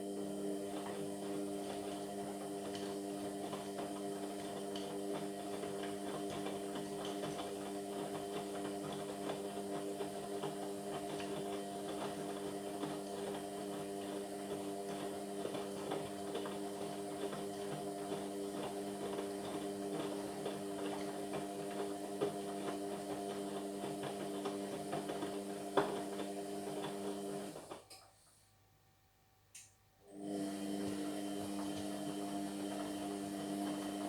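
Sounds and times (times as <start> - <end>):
washing machine motor hum: 0.0 - 28.0, 30.0 - 34.0.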